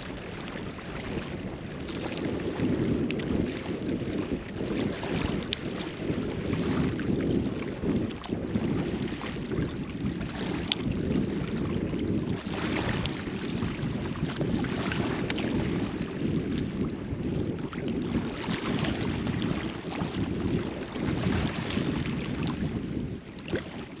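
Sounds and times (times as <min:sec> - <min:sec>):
surf washing: 0:00.0 - 0:24.0
wind buffeting microphone: 0:00.0 - 0:24.0.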